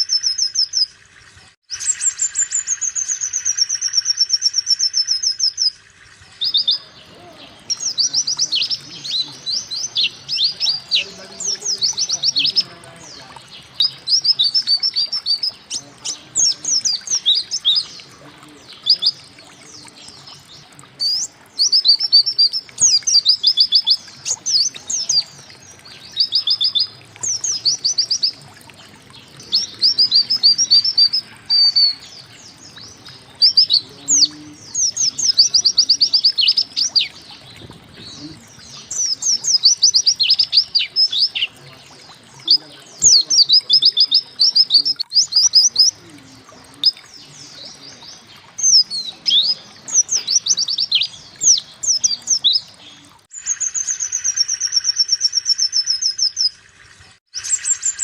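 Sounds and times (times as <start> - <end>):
bird chirping rapidly: 1.7 - 41.6, 42.2 - 58.0.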